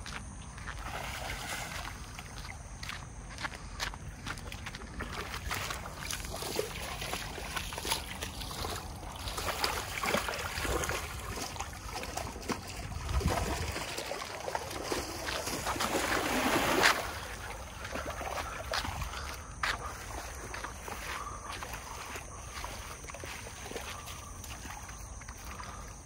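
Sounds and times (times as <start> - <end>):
feet splashing through water: 0.1 - 26.0
water trickling: 4.2 - 26.0.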